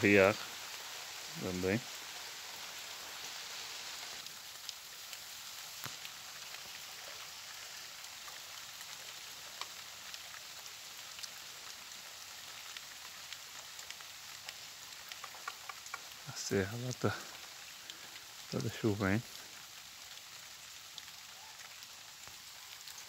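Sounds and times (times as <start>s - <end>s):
rain falling on vegetation: 0.0s - 23.0s.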